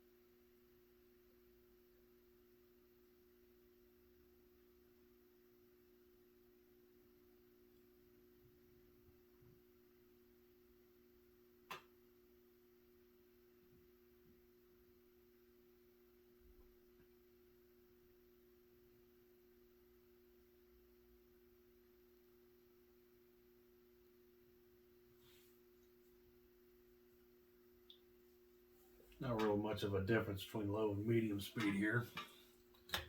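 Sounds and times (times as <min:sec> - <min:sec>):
faint ceiling fan motor hum: 0:01.6 - 0:33.0.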